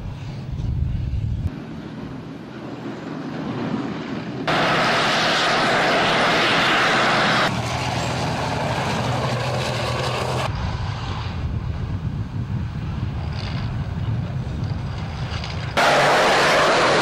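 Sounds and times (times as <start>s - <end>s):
tracked vehicle engine running: 1.5s - 17.0s.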